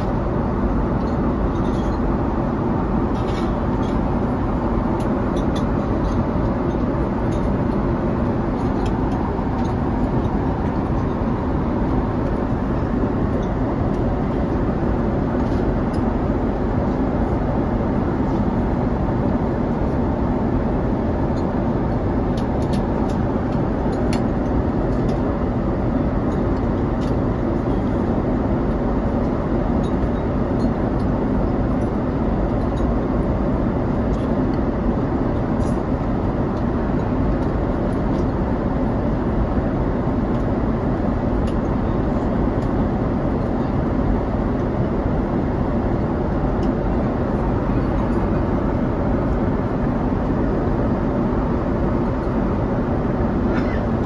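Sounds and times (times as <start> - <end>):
airliner cabin noise: 0.0 - 54.0.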